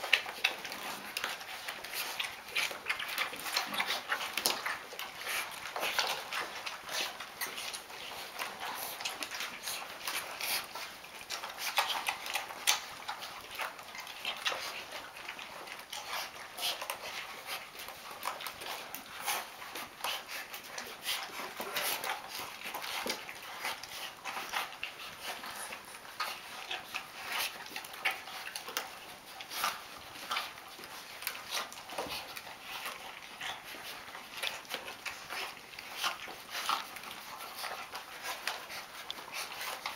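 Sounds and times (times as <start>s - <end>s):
puppies eating from bowl: 0.0s - 39.9s.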